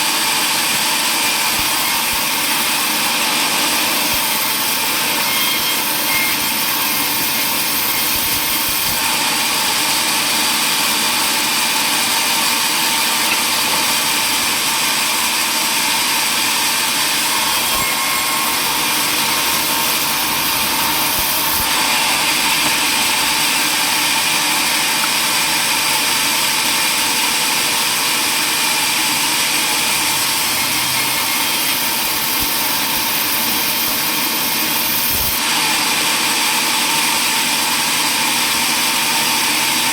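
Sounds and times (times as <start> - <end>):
power saw running: 0.0 - 39.9.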